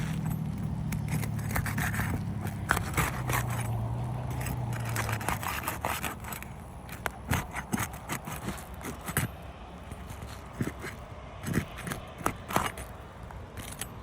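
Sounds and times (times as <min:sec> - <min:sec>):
pry tool scraping shingles: 0:00.0 - 0:14.0
steady low hum: 0:00.0 - 0:14.0.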